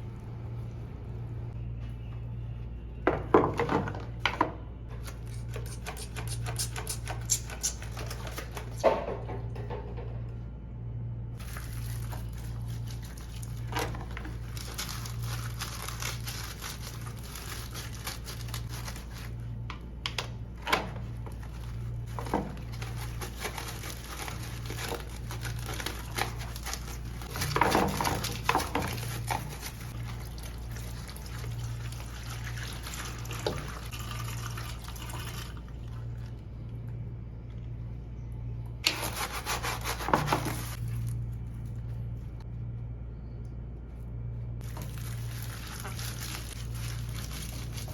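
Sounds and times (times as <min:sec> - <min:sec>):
steady low hum: 0:00.0 - 0:03.0, 0:04.4 - 0:47.9.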